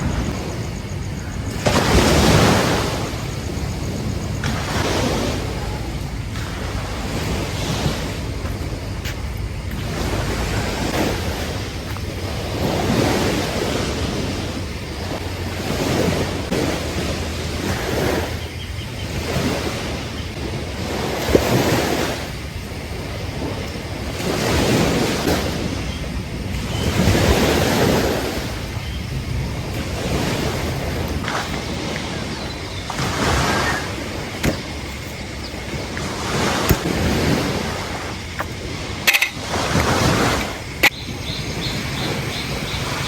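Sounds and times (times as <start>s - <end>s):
ocean waves breaking: 0.0s - 43.0s
wind buffeting microphone: 0.0s - 43.0s.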